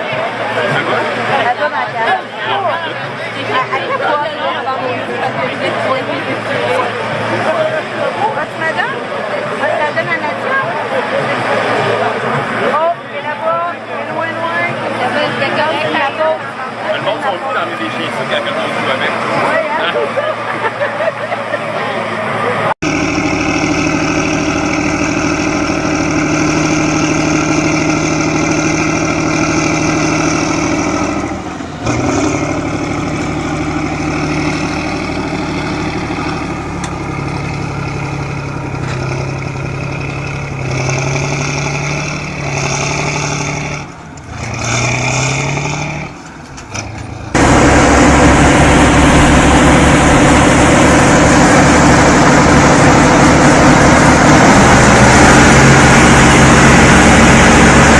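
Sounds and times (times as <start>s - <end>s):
heavy vehicle engines revving: 0.0s - 57.9s
loud rough engine noise: 0.0s - 57.9s.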